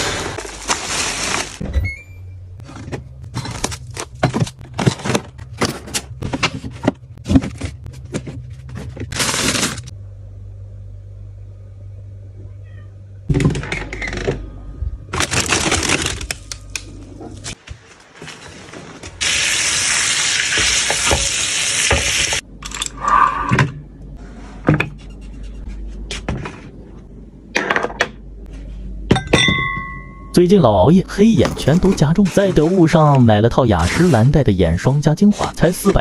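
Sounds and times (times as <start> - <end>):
low steady hum: 0.0 - 19.2, 22.4 - 36.0.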